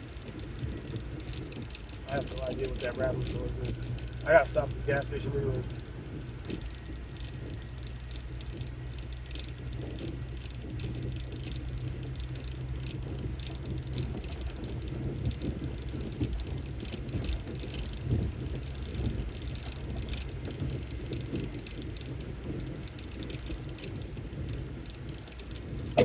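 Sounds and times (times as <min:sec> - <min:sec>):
car engine and road drone: 0:00.0 - 0:26.0
light clicks and rattles: 0:00.0 - 0:26.0.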